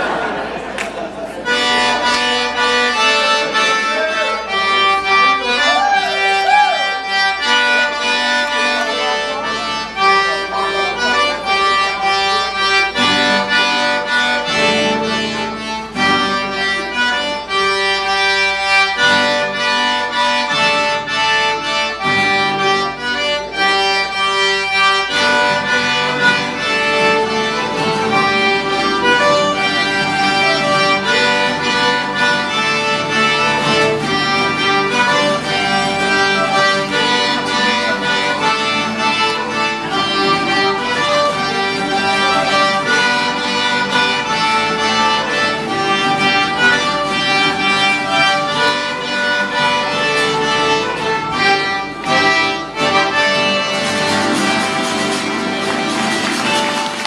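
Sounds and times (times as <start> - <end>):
button accordion melody: 0.0 - 57.0
fiddles: 0.0 - 57.0
strummed acoustic guitars: 0.0 - 57.0.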